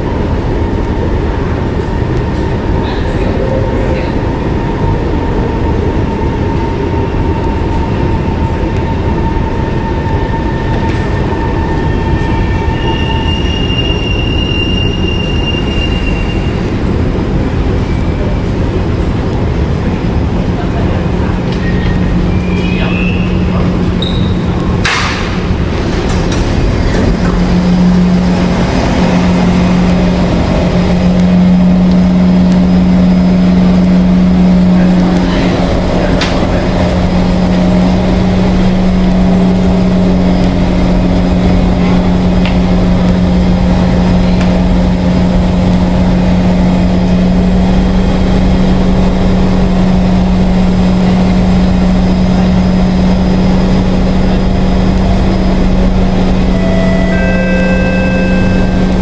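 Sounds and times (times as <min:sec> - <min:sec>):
train equipment humming: 0:00.0 - 0:59.0.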